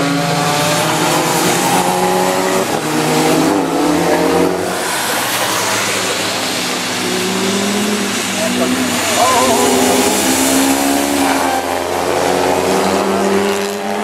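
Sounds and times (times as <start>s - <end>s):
racing car engines passing: 0.0s - 14.0s.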